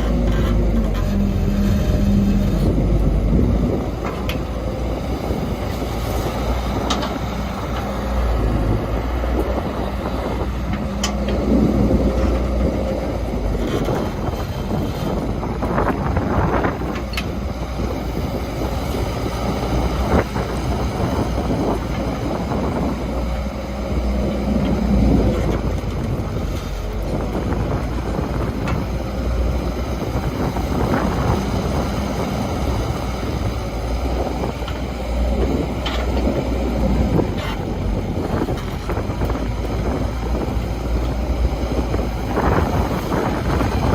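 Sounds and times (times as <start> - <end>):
diesel engines of construction machinery: 0.0 - 43.9.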